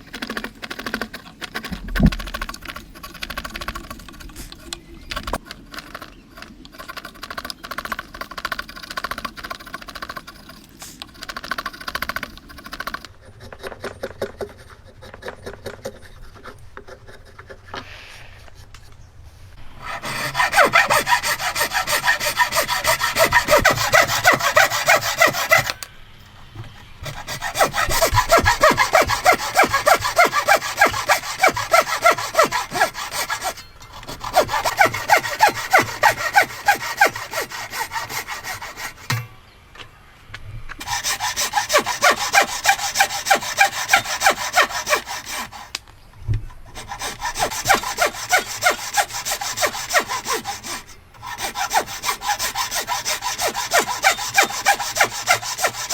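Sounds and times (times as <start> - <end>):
hand saw cutting wood: 0.0 - 18.3, 19.8 - 25.9, 26.5 - 39.3, 40.8 - 45.8, 46.7 - 55.9.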